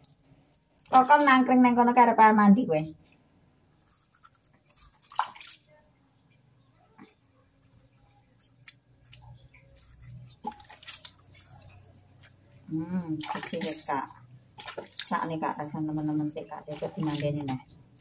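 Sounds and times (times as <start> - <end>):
water drips and small splashes: 0.0 - 1.6, 3.7 - 18.0.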